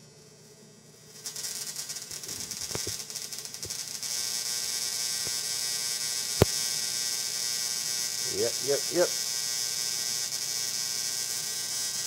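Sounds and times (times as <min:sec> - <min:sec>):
tesla coil spark buzz: 0:00.9 - 0:12.0.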